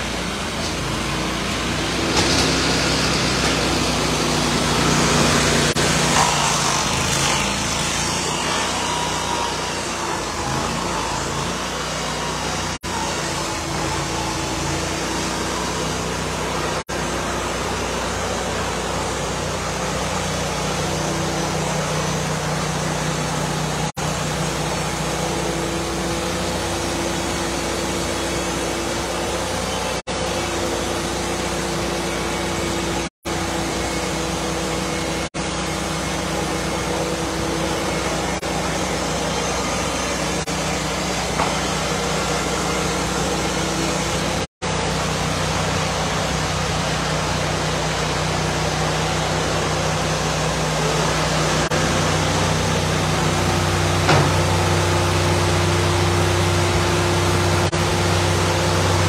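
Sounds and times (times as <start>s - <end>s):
sawmill engine and saw drone: 0.0s - 59.0s.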